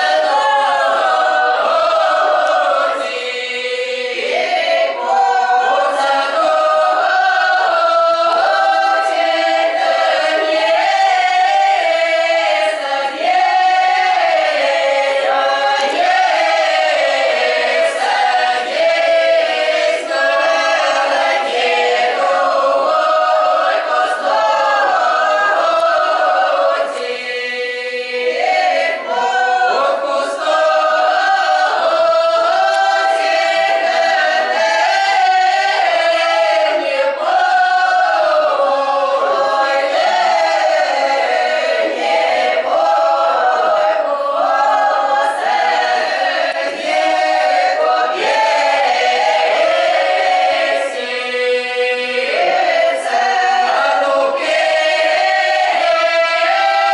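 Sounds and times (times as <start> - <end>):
folk choir singing unaccompanied: 0.0 - 56.9.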